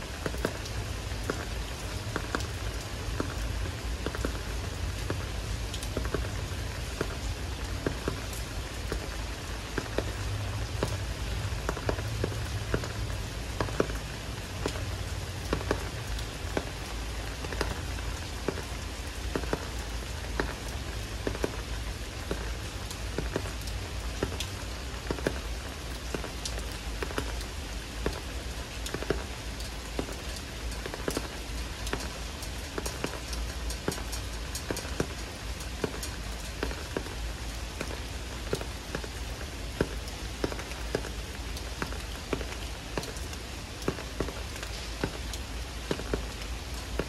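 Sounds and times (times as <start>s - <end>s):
raindrops tapping: 0.0s - 47.0s.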